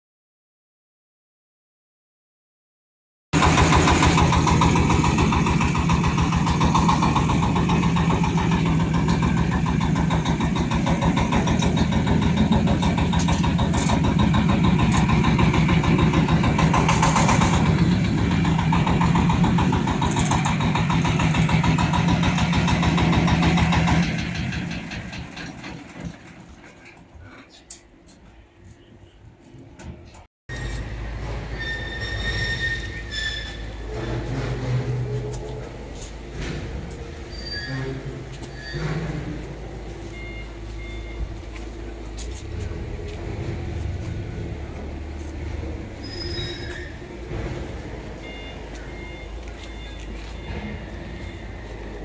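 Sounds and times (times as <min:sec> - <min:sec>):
diesel engine running: 0:03.4 - 0:27.6, 0:30.5 - 0:52.0.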